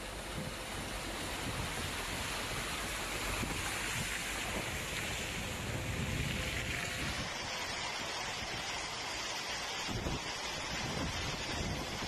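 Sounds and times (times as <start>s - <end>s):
wind buffeting microphone: 0.0s - 7.7s, 9.8s - 12.0s
floodwater rushing: 0.0s - 12.0s.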